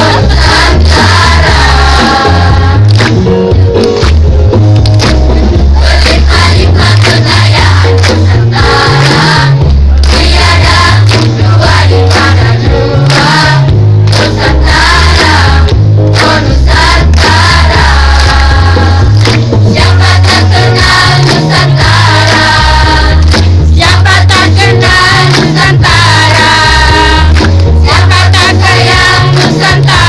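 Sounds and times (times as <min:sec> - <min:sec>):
choir singing: 0:00.0 - 0:02.9, 0:05.8 - 0:19.2, 0:19.8 - 0:30.0
heavy bass line: 0:00.0 - 0:30.0.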